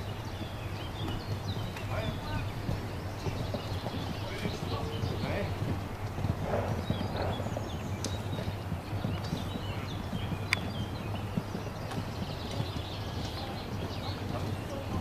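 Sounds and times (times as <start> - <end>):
horse hooves cantering on sand: 0.0 - 15.0.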